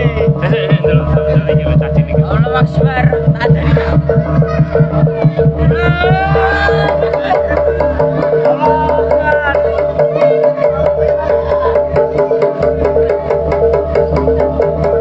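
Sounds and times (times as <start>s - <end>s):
low drum strokes: 0.0s - 15.0s.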